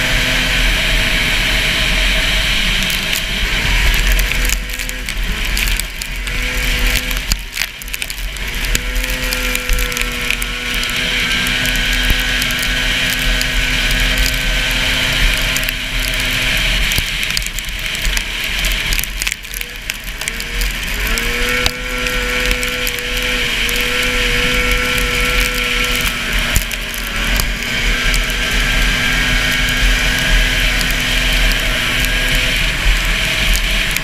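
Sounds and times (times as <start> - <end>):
snowmobile engine revving high: 0.0 - 34.0.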